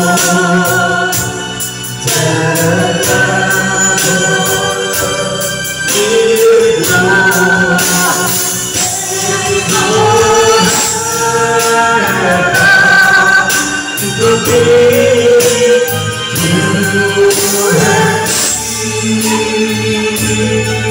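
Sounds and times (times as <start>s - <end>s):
karaoke backing track: 0.0s - 20.9s
men singing into microphones: 0.0s - 20.9s.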